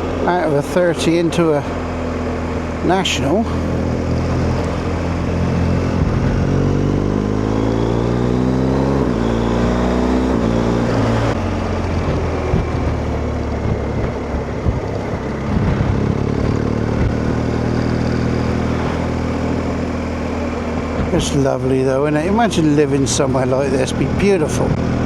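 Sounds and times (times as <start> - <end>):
exhaust crackles: 0.0 - 25.0
motorcycle engine accelerating: 0.0 - 25.0.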